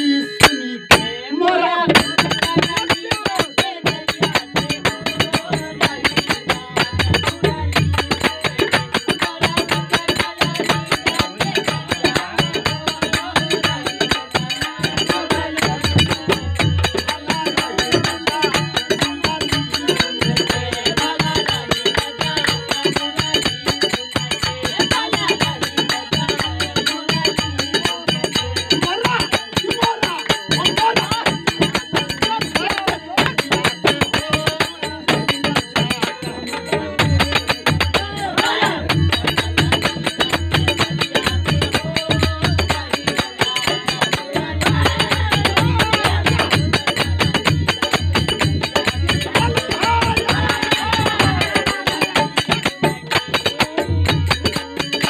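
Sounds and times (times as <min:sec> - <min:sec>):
hand drum: 0:00.9 - 0:01.1, 0:01.9 - 0:55.0.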